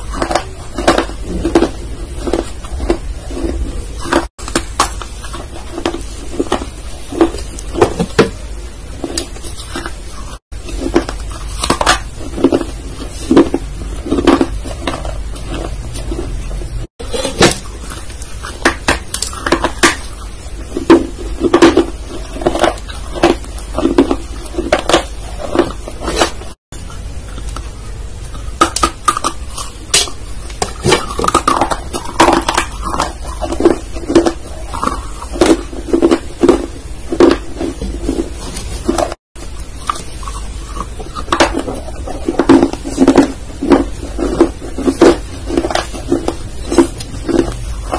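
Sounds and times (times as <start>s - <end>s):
mouth chewing crunches: 0.0s - 47.9s.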